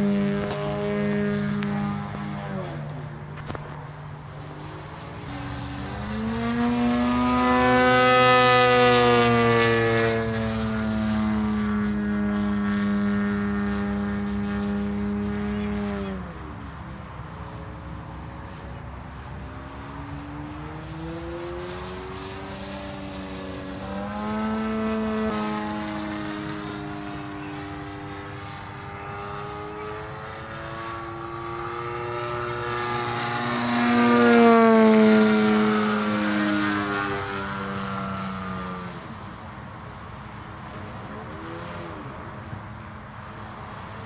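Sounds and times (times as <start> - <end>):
model airplane engine drone: 0.0 - 44.0.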